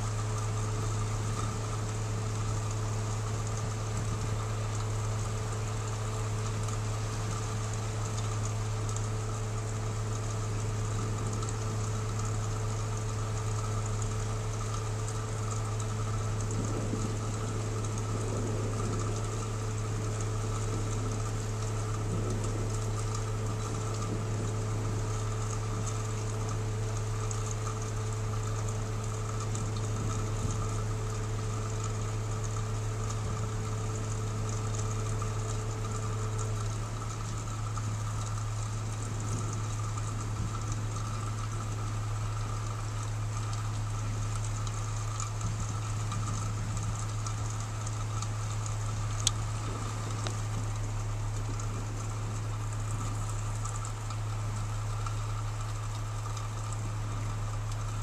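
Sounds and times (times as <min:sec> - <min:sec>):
car engine idling: 0:00.0 - 0:58.0
faint thin whine: 0:00.0 - 0:58.0.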